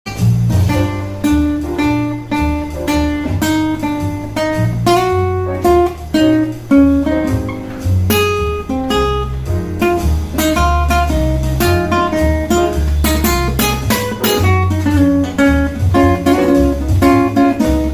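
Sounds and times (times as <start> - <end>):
fingerstyle acoustic guitar: 0.1 - 17.9.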